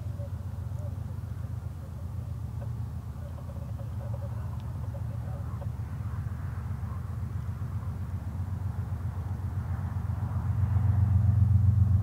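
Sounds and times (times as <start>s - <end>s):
distant diesel locomotives rumbling: 0.0s - 12.0s.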